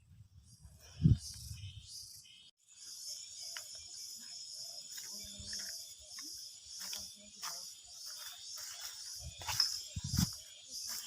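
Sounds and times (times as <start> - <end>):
forest insects chorus: 1.0 - 11.0.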